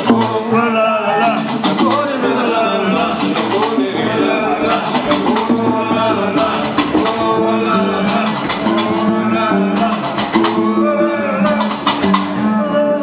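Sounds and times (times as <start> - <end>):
drums: 0.0 - 13.0
low plucked string notes: 0.0 - 13.0
man singing: 0.0 - 13.0.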